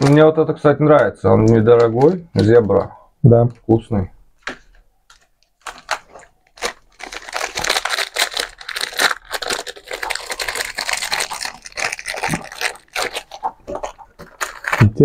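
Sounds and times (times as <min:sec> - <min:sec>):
plastic wrapper crinkling: 0:00.0 - 0:00.4, 0:01.0 - 0:02.9, 0:04.4 - 0:15.0.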